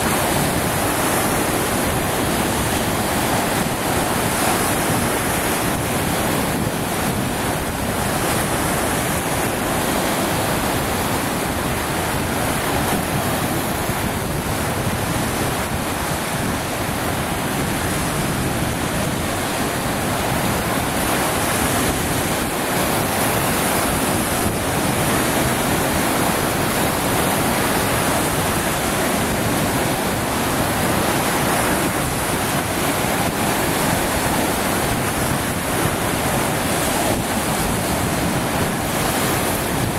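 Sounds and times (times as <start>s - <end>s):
waves breaking over rock: 0.0s - 39.9s
wind on microphone: 0.0s - 39.9s.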